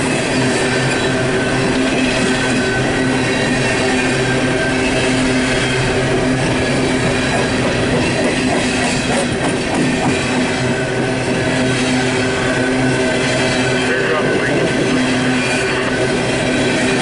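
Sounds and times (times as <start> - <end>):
wheel and rail noise: 0.0 - 17.0.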